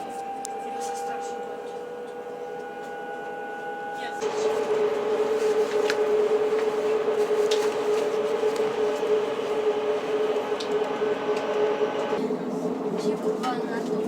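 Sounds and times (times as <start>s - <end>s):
train carriage hum: 0.0s - 14.0s.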